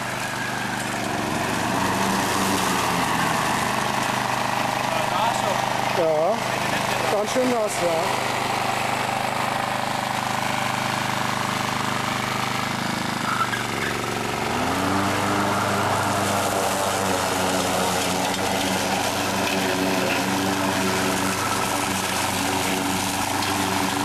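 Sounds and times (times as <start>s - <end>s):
ride-on mower engine running: 0.0s - 24.0s.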